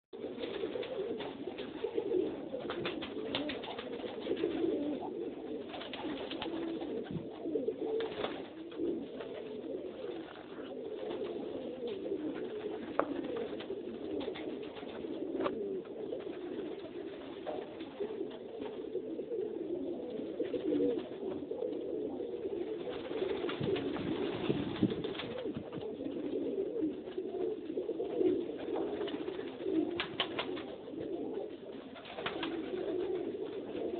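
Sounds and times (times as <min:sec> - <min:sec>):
pigeons cooing: 0:00.2 - 0:33.9.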